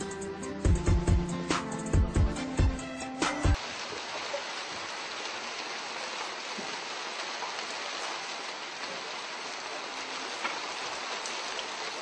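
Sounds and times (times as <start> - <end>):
heavy rain pouring: 0.6 - 12.0.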